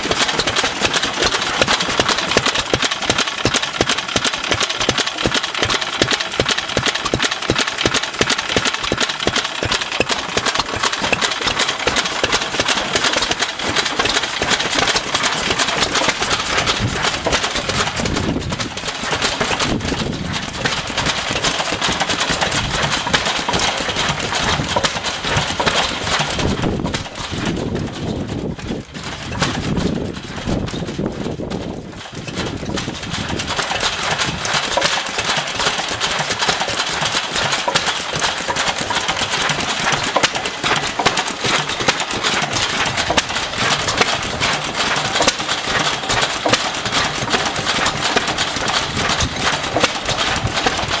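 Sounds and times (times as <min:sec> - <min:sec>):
stationary engines clattering: 0:00.0 - 0:51.0.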